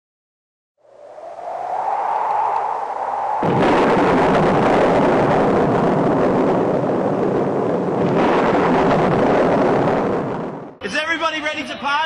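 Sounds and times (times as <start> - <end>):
dense rumbling roar: 0.9 - 10.8.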